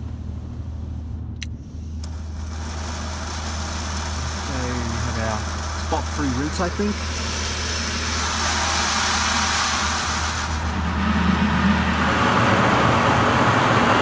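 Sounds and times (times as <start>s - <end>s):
low steady hum: 0.0s - 14.0s
water spraying onto car: 1.9s - 14.0s.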